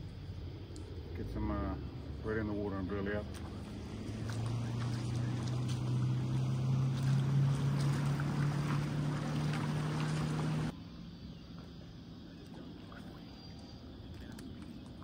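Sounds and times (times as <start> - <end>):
motorboat engine droning: 0.0 - 14.9.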